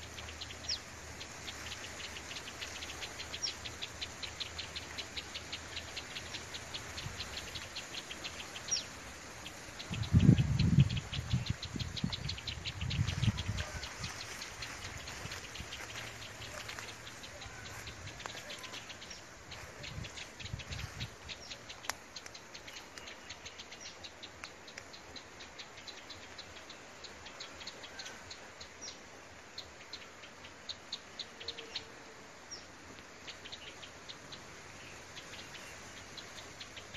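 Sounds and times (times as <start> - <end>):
small birds chirping: 0.0 - 36.9
steady outdoor hiss: 0.0 - 36.9.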